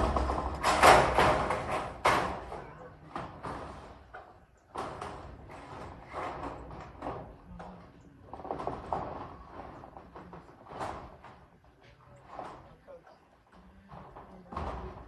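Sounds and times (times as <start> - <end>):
metal roofing sheets banging: 0.0 - 12.8, 13.6 - 15.0.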